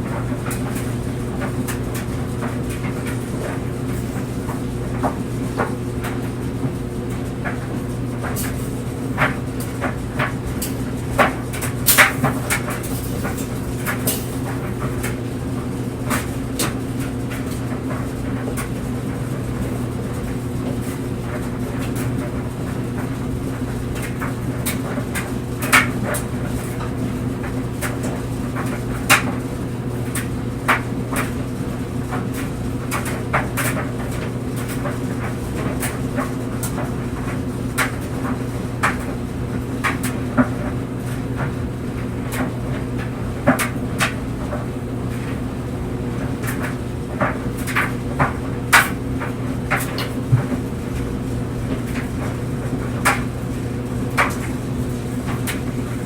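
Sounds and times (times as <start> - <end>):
clothes dryer humming: 0.0 - 56.0.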